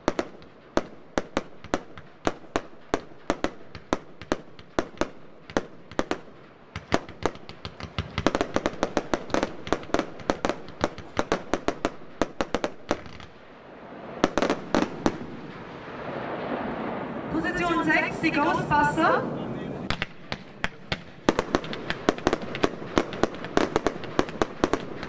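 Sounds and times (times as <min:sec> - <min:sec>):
loud firework bangs: 0:00.0 - 0:18.6, 0:19.2 - 0:25.0
fireworks shots and bursts: 0:00.0 - 0:25.0.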